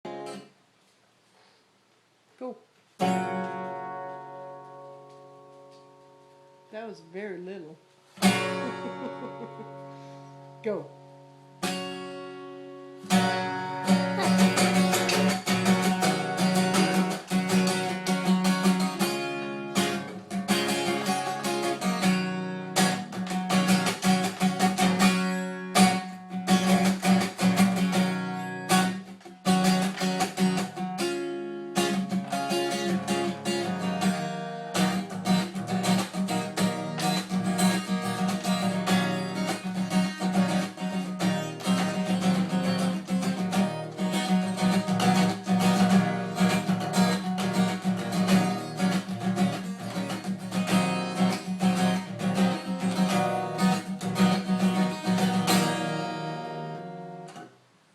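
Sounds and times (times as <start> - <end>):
acoustic guitar strumming and picking: 0.0 - 0.5, 3.0 - 57.5.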